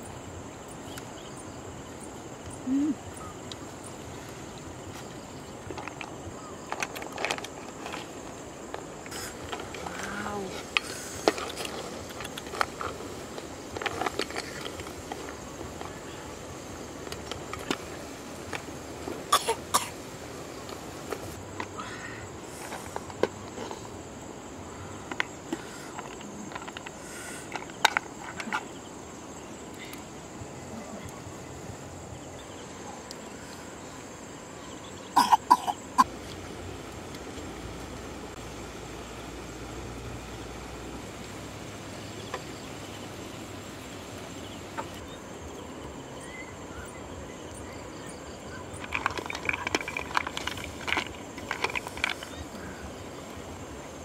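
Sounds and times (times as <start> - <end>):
background hiss: 0.0 - 54.0
high insect drone: 0.0 - 54.0.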